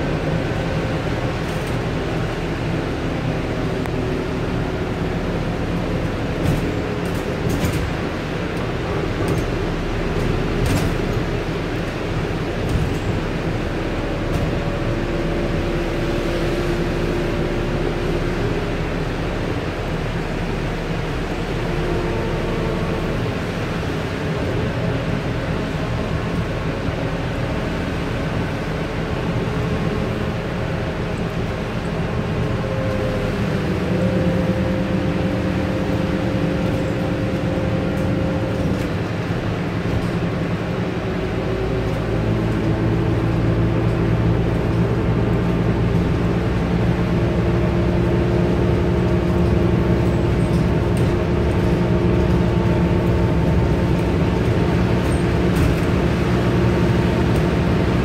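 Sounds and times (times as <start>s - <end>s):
bus engine droning: 0.0s - 58.0s.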